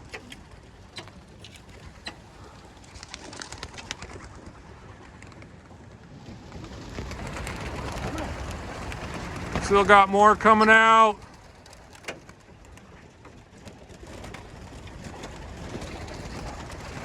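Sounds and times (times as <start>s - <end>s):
wing claps and flutters: 0.0s - 17.0s.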